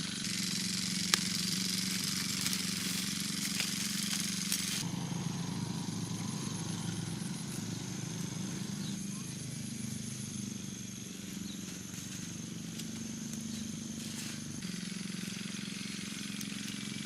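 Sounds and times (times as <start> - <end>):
small engine pulsing drone: 0.0 - 17.0.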